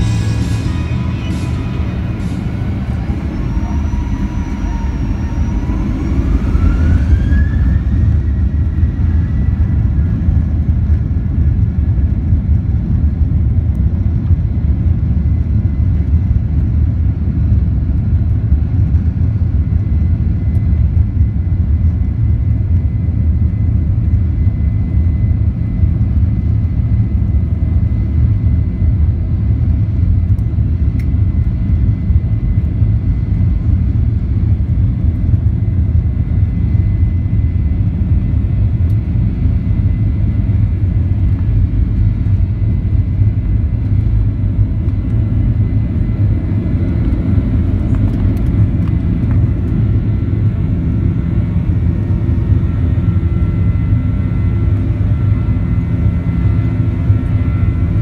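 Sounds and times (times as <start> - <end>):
jet engine rumble and fan whine: 0.0 - 58.0.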